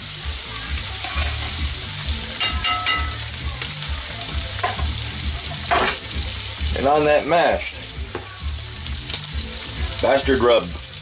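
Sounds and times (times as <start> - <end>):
food sizzling in skillets: 0.0 - 11.0.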